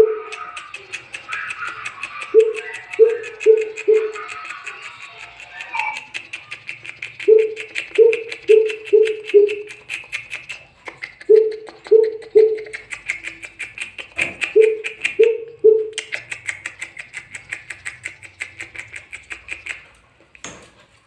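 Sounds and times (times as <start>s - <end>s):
bird deep hooting calls: 0.0s - 4.6s, 5.6s - 19.9s
fast steady ticking: 0.0s - 19.8s.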